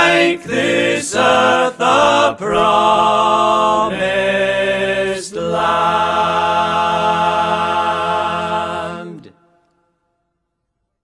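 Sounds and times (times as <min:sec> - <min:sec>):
choir-like chanting: 0:00.0 - 0:09.6.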